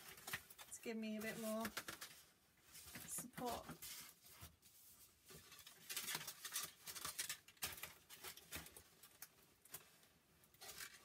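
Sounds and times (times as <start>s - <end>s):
paper hat rustling and crinkling: 0.0s - 11.0s.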